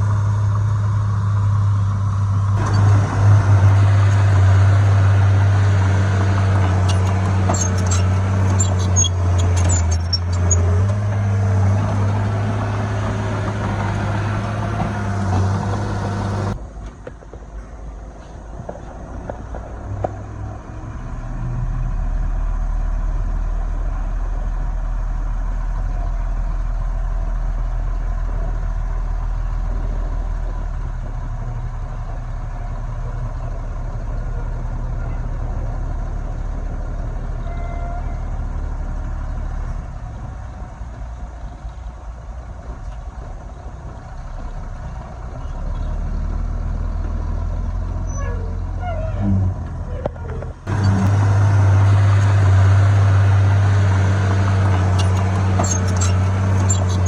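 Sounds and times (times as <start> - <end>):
heavy diesel machinery engine drone: 0.0 - 16.8, 17.6 - 57.0.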